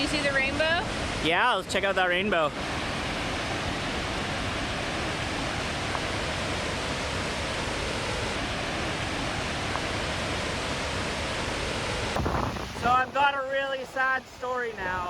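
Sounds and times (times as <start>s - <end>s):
waterfall crashing: 0.9s - 15.0s.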